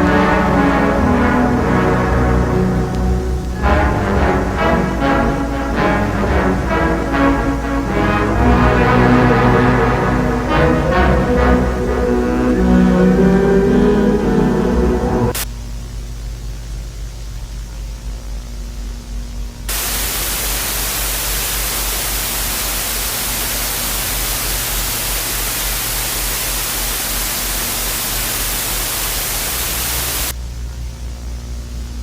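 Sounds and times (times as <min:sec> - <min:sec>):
loud static hiss: 0:00.0 - 0:32.0
low steady hum: 0:00.0 - 0:32.0.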